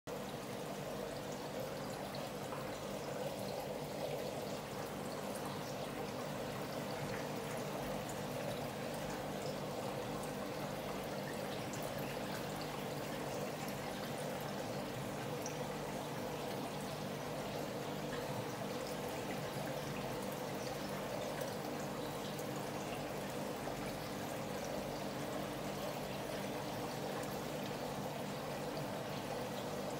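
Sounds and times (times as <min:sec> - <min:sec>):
aquarium water bubbling: 0:00.1 - 0:29.9.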